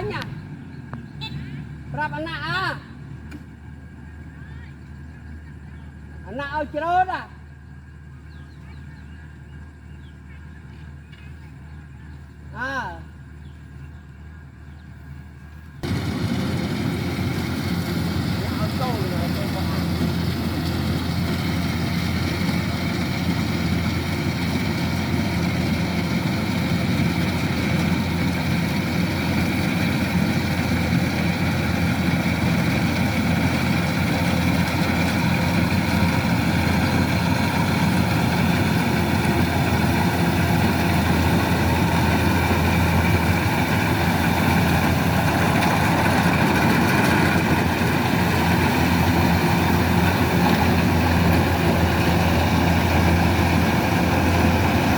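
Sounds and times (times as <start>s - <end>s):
combine harvester engine droning: 0.0s - 54.9s.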